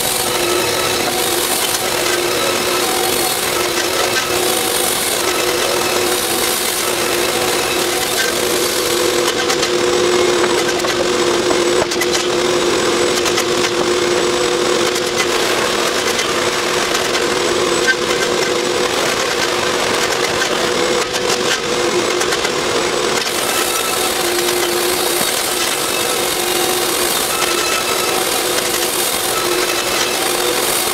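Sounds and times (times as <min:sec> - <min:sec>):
band sawmill engine hum: 0:00.0 - 0:30.9.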